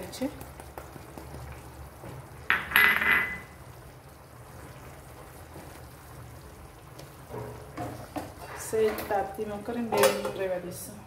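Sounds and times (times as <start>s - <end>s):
gravy simmering in a pan: 0.0s - 10.5s.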